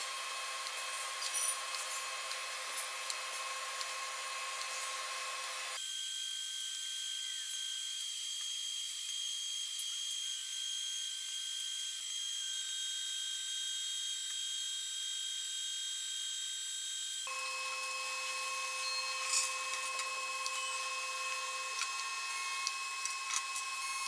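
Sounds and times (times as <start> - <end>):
welding arc hissing and whining: 0.0 - 24.0.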